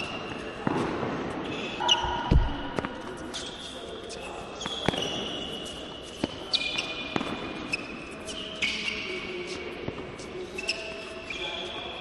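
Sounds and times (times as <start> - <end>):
sneakers squeaking on court: 0.0 - 12.0.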